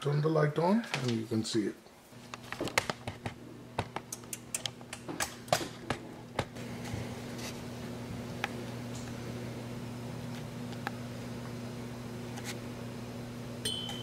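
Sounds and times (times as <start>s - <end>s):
electric oven humming: 1.4s - 14.0s.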